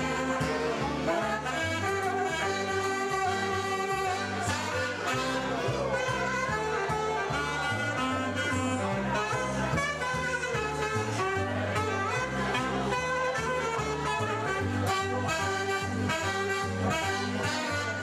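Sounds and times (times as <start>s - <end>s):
saxophones playing jazz: 0.0s - 18.0s.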